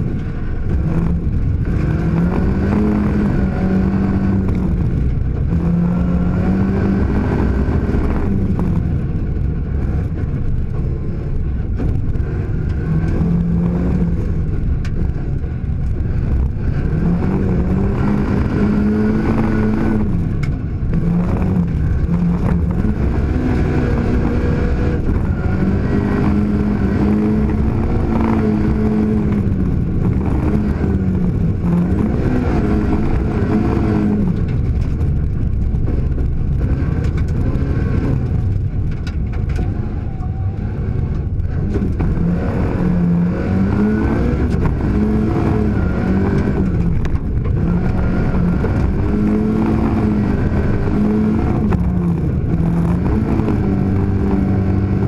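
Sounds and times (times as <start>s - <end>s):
rally car engine revving: 0.0s - 55.0s
tyres rumbling on gravel: 0.0s - 55.0s.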